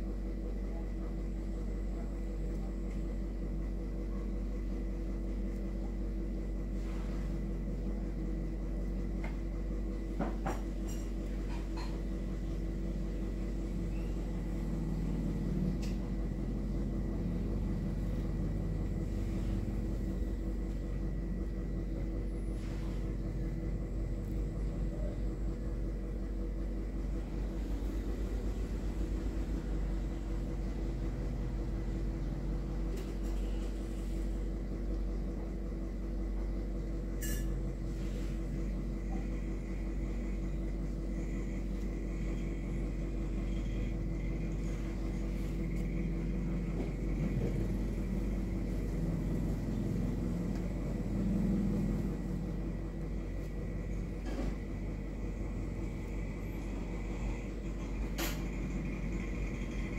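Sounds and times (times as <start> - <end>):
constant hum: 0.0 - 59.9.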